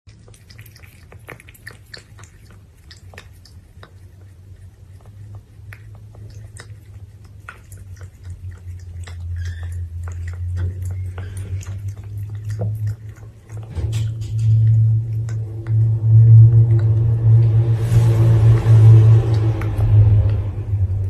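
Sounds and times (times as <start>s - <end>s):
kitten lapping water: 0.0s - 21.0s
low steady hum: 0.1s - 21.0s.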